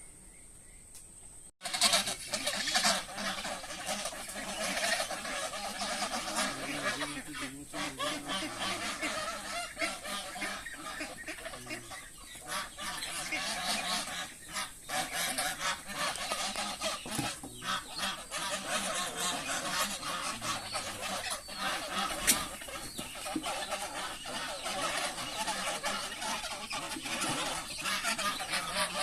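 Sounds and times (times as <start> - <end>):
flock of fowl calling: 1.6 - 29.0.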